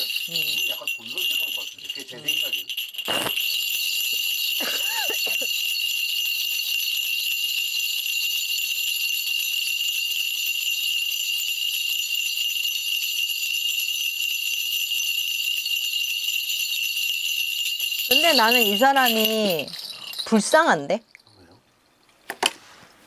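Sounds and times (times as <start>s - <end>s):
small bells jingling: 0.0s - 22.1s.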